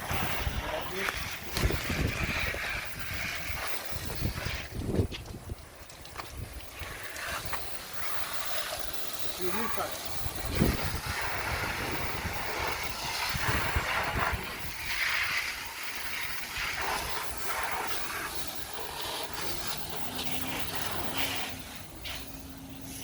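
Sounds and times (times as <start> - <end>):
car washing spray hissing: 0.0 - 23.0.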